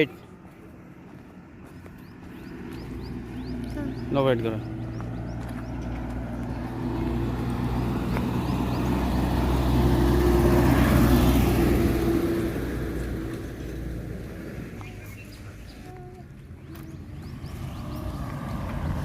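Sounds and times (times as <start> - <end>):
vehicle driving past: 2.0 - 15.9, 16.6 - 19.0.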